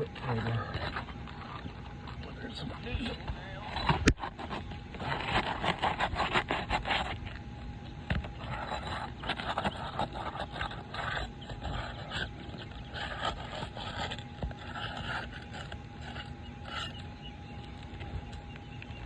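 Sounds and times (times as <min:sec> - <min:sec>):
tool scraping under roof shingles: 0:00.0 - 0:18.5.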